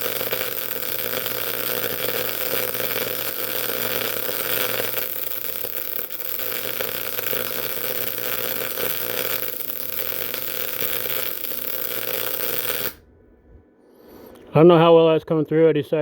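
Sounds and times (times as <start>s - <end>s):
welding arc crackling sizzle: 0.0s - 13.0s
faint steady hum: 0.0s - 16.0s.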